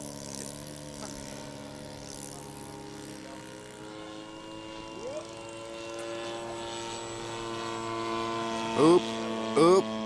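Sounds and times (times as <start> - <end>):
model airplane engine and propeller: 0.0 - 10.0.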